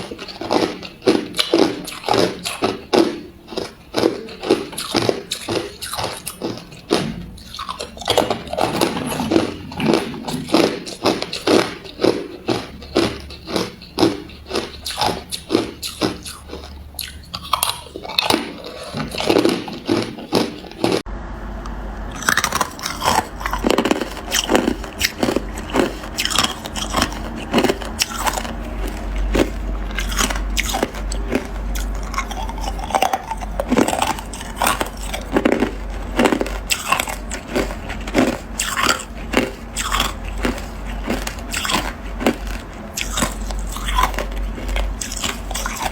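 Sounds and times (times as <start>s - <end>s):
person crunching ice: 0.0s - 21.0s, 22.2s - 45.9s.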